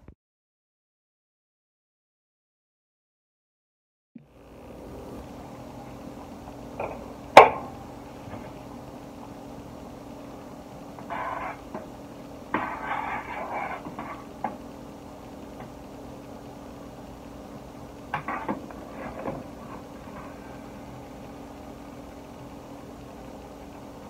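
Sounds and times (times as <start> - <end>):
steady low hum: 4.2 - 24.0.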